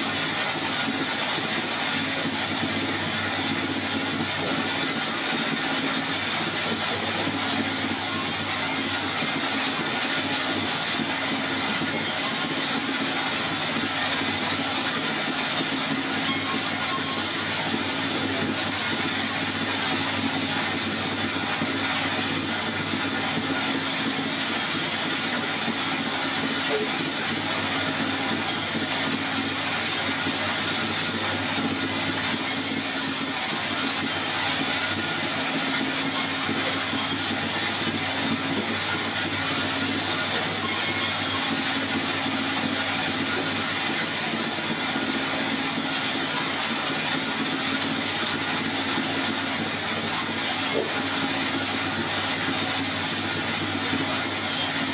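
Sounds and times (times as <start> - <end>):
band saw cutting wood: 0.0 - 54.9.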